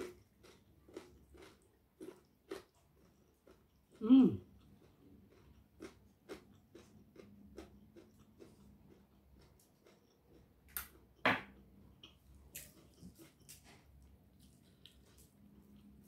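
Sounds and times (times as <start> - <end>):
chewing with wet mouth clicks: 0.0 - 4.0, 4.6 - 16.0.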